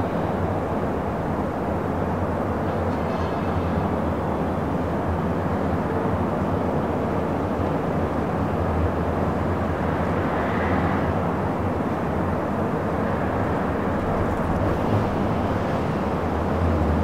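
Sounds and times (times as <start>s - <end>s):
rumble of distant vehicles: 0.0s - 17.0s.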